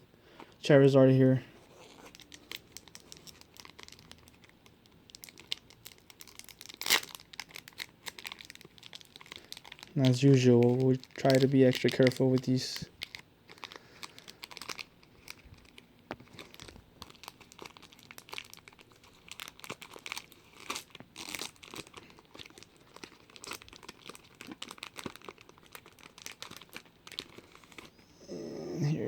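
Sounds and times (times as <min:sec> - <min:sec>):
foil wrapper crinkling: 0:01.7 - 0:28.0.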